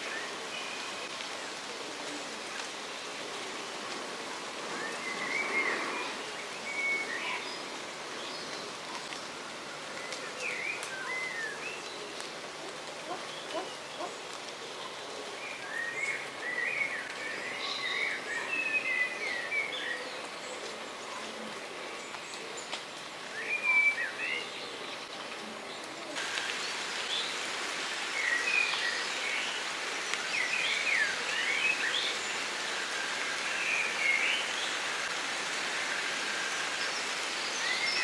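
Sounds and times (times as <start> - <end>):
outdoor ambient hiss: 0.0 - 38.0
songbirds chirping and warbling: 0.0 - 38.0.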